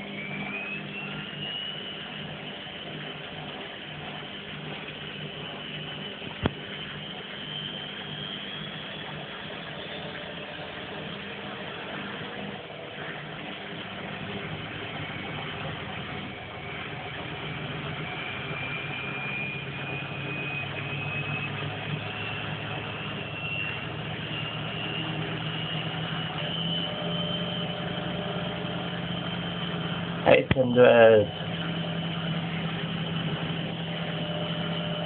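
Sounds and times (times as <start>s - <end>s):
high whine rising in pitch: 0.0s - 35.0s
washing machine motor hum: 0.0s - 35.0s.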